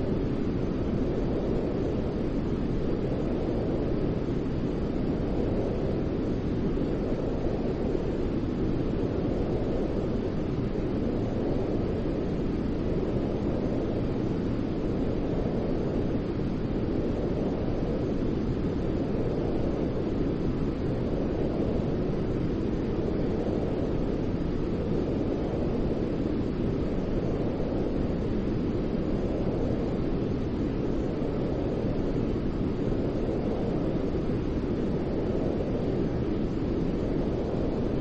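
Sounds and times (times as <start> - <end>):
deep rumbling white noise: 0.0 - 38.0.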